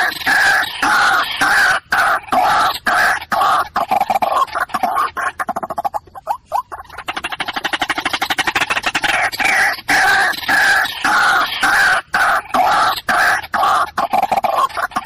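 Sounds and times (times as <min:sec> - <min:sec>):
waterhen croaking: 0:00.0 - 0:15.0
waterhen rattling call: 0:00.0 - 0:15.0.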